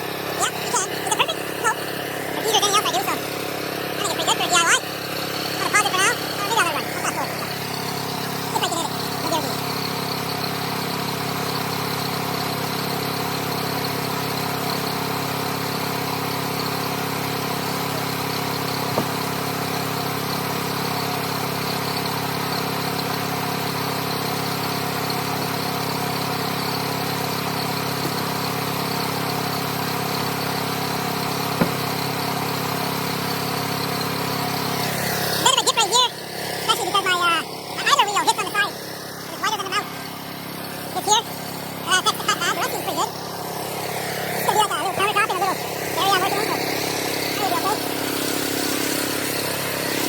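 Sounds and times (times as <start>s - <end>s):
sawmill engine running: 0.0s - 50.0s.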